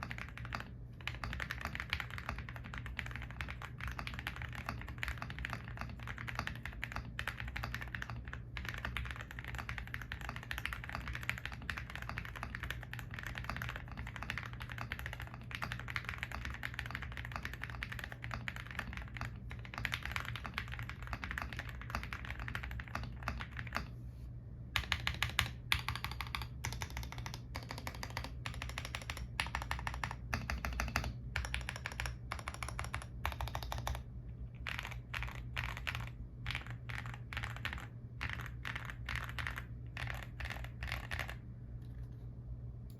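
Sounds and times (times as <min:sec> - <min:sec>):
mechanical keyboard typing: 0:00.0 - 0:23.9, 0:24.8 - 0:42.0.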